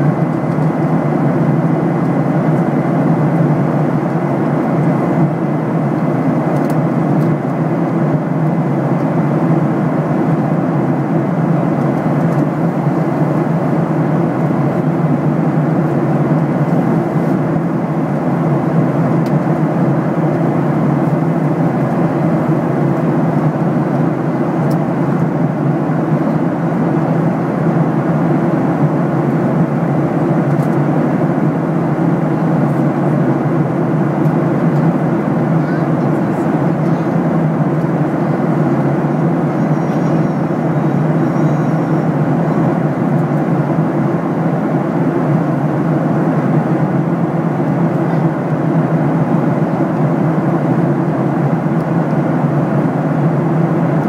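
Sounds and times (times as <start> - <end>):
airliner cabin engine rush: 0.0 - 54.0.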